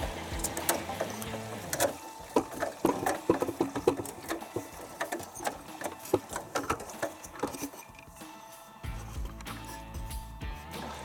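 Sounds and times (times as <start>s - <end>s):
wet towels tumbling in washing machine: 0.0s - 9.9s.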